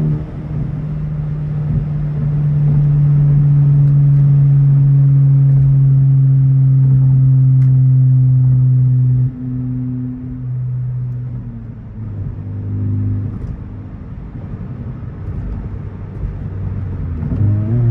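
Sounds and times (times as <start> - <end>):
car engine droning: 0.0 - 17.9.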